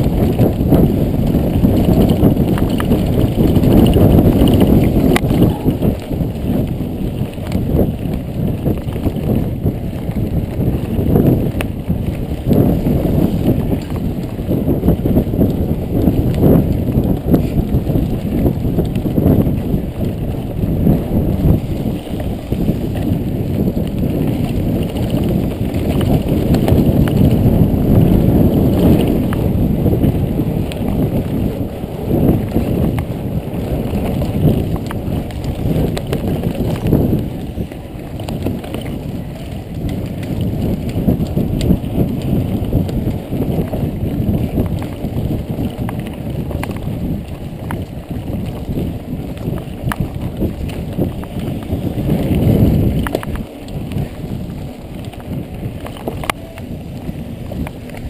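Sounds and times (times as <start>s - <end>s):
bike rattling and knocking: 0.0s - 58.0s
wind and tyres rushing: 0.0s - 58.0s.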